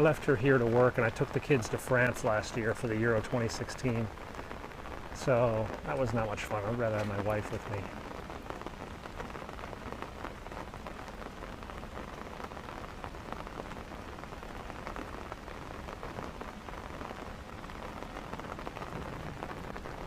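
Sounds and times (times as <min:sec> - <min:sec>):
heavy rain: 0:00.0 - 0:20.0
raindrops ticking near microphone: 0:00.0 - 0:20.0.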